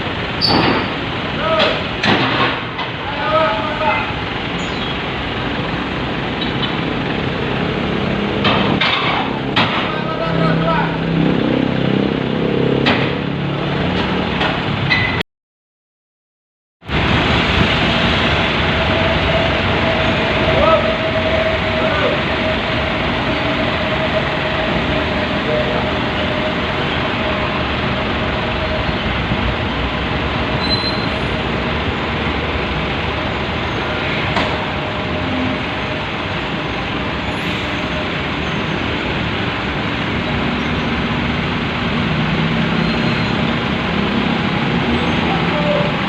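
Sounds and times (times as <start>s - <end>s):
heavy diesel machinery running: 0.0s - 15.2s, 16.8s - 46.0s.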